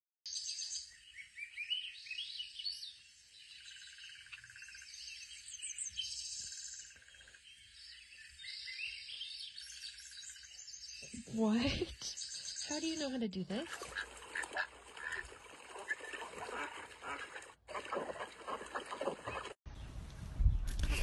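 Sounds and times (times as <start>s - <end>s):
birds chirping and trilling: 0.3s - 21.0s.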